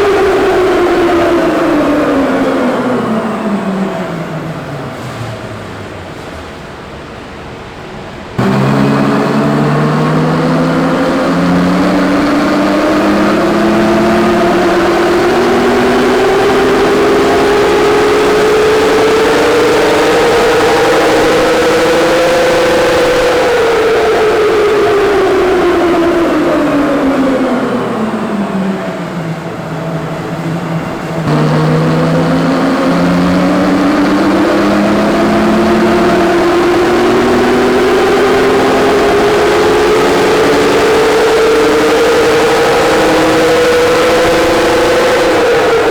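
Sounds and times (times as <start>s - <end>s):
engine revving under load: 0.0s - 7.0s, 8.4s - 45.9s.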